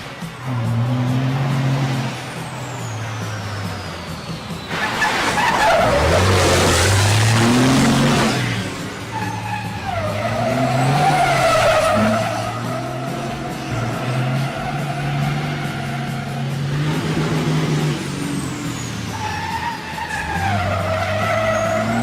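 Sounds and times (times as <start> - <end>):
tyres squealing: 0.2 - 22.0.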